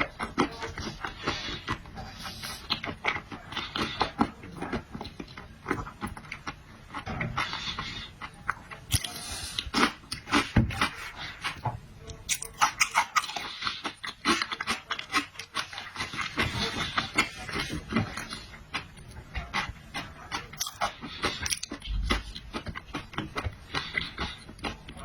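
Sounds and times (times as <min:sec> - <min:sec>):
wet chewing and smacking: 0:00.0 - 0:25.0.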